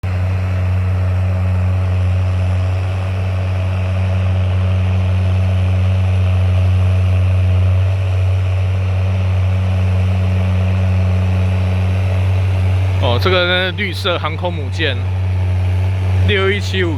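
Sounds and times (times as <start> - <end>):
tractor diesel engine droning: 0.0 - 16.9.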